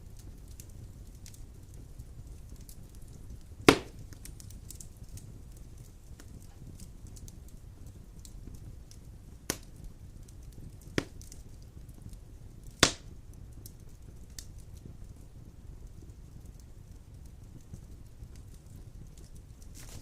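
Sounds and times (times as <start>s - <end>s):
fire crackling: 0.0s - 20.0s
low rumble of flame: 0.0s - 20.0s
sharp fire pops: 0.0s - 20.0s.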